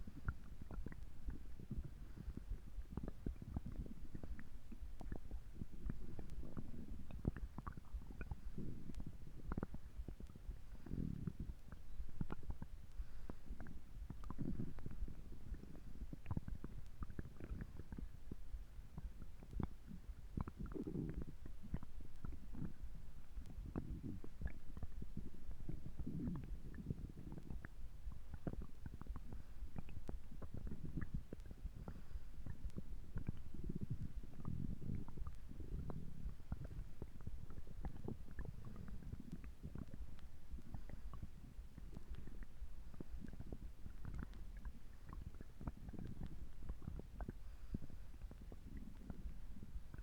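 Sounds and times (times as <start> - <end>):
stomach gurgling: 0.0 - 50.0.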